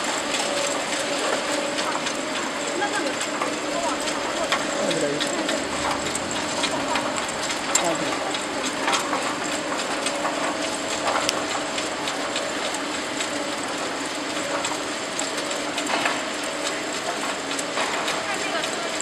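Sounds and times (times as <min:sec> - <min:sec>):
conveyor machinery clatter: 0:00.0 - 0:19.0
low machine hum: 0:00.0 - 0:19.0.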